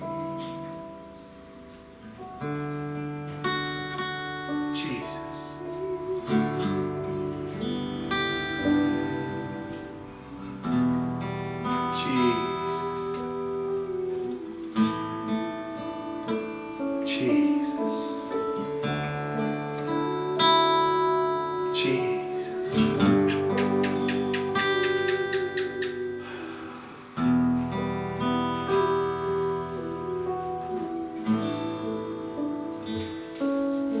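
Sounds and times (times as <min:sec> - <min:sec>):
acoustic guitar strumming: 0:00.0 - 0:34.0
person singing: 0:04.5 - 0:34.0.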